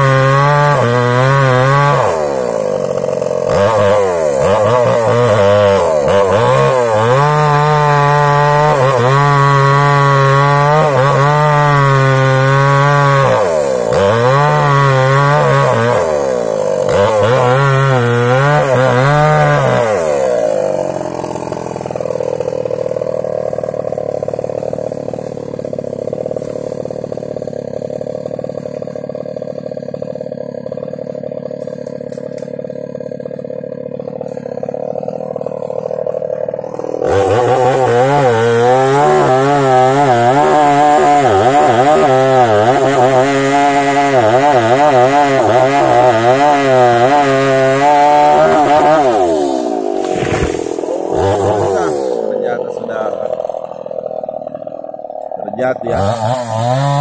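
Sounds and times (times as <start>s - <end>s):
chainsaw cutting wood: 0.0s - 57.0s
chainsaw idling: 0.0s - 57.0s.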